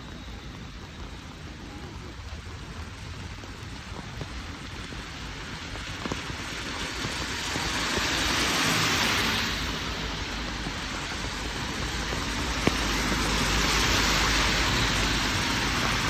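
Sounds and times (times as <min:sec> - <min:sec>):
steady rain: 0:00.0 - 0:16.0
tyres hissing on wet road: 0:00.0 - 0:16.0.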